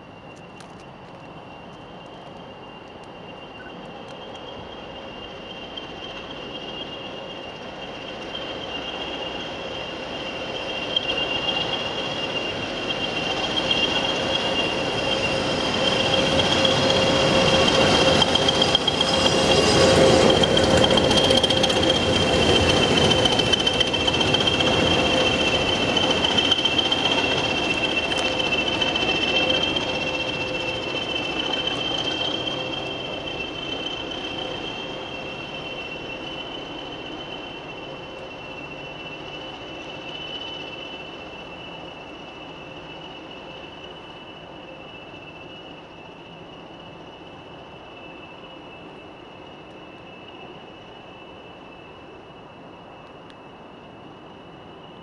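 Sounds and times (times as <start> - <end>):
diesel locomotive passing: 0.0 - 55.0
high-pitched whine: 0.0 - 55.0.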